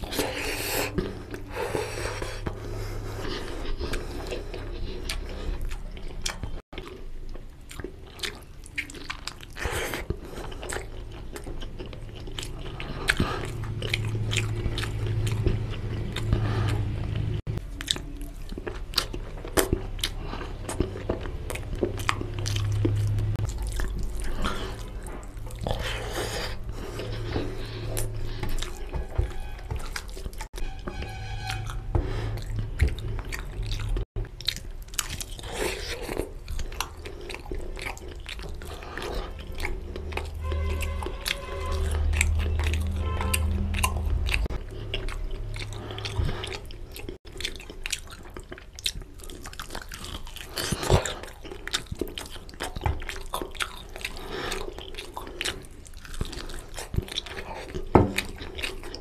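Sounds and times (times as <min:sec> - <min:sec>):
wet chewing and lip smacking: 0:00.0 - 0:59.0.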